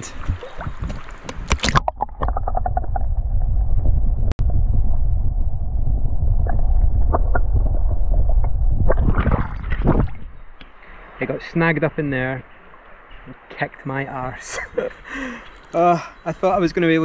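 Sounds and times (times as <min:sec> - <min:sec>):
muffled underwater river current: 0:00.0 - 0:13.8.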